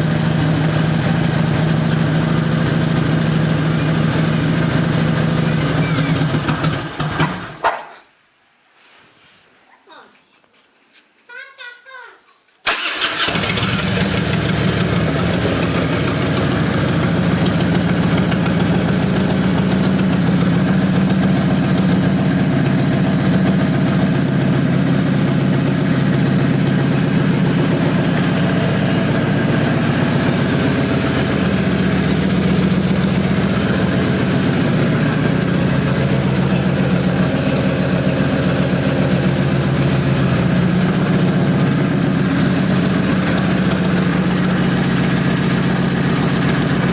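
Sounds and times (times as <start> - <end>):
motorcycle engine starting and idling: 0.0 - 7.7, 12.6 - 46.9.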